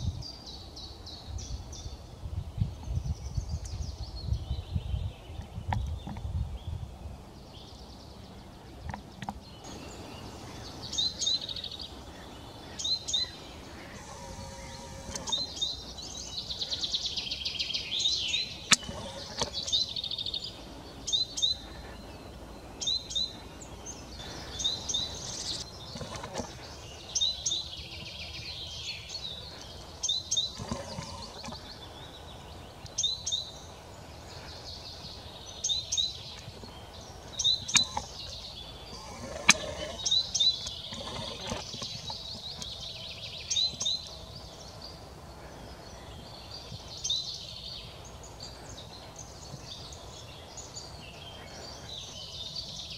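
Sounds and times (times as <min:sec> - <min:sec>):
songbird chirping: 0:00.0 - 0:52.9.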